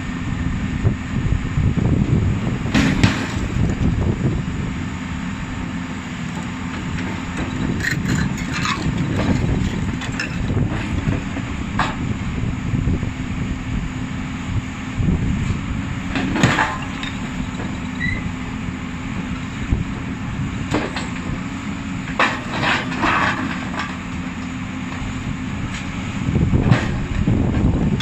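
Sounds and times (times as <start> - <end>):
machine drone and hum: 0.0 - 28.0.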